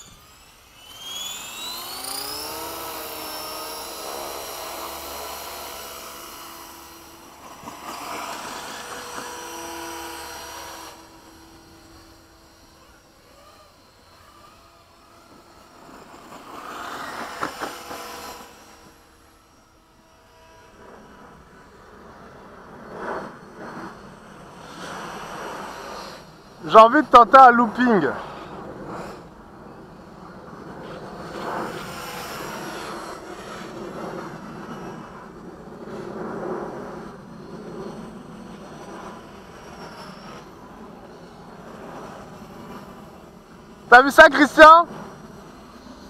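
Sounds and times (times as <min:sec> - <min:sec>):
rc helicopter rotor whine: 0:00.0 - 0:46.0.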